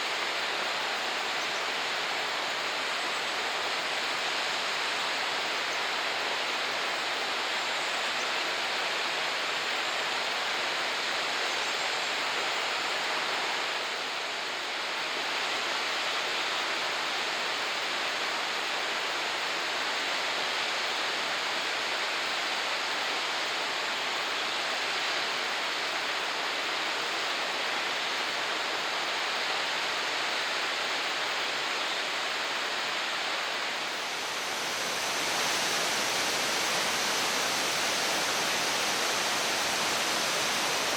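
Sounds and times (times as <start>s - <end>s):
waterfall rushing: 0.0s - 19.9s, 23.5s - 40.9s.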